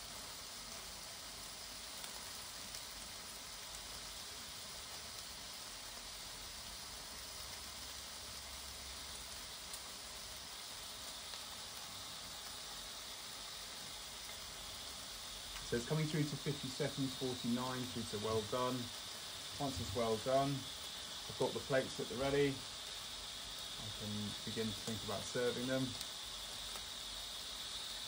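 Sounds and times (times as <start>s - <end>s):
meat sizzling in grill: 0.0s - 28.0s.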